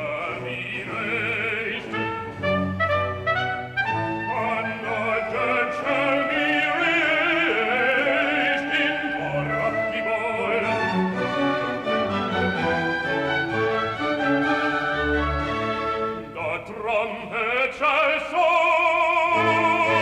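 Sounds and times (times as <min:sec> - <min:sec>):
orchestra playing: 0:00.0 - 0:16.6, 0:19.1 - 0:20.0.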